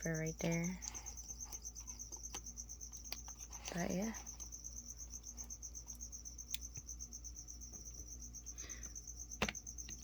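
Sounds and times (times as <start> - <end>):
cricket chirping trill: 0.0 - 10.0.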